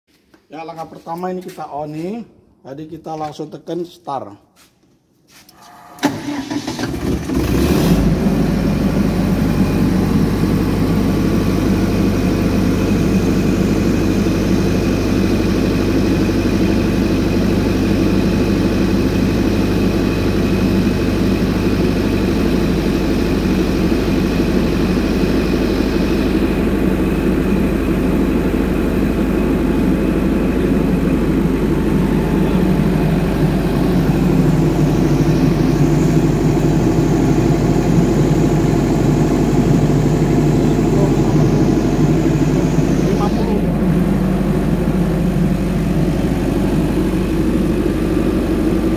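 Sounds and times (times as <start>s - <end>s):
diesel generator running: 5.4s - 48.9s.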